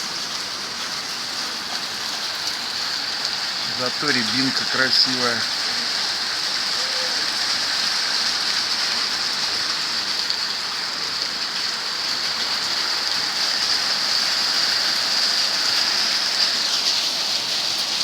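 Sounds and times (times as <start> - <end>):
rain pouring: 0.0 - 18.0.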